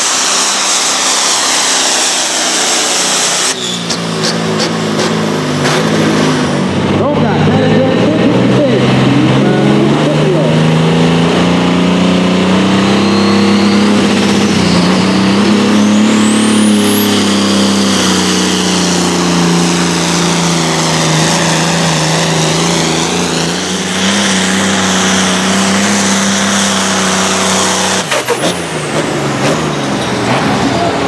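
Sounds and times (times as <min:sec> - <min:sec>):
diesel tractor engine at full throttle: 0:00.0 - 0:31.0
high whine: 0:00.0 - 0:31.0.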